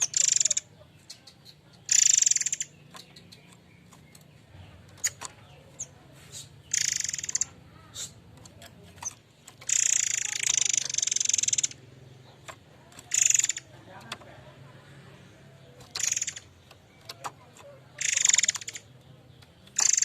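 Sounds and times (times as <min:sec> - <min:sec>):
faint chirps and ticks: 0:00.0 - 0:20.0
songbird trilling: 0:00.0 - 0:20.0.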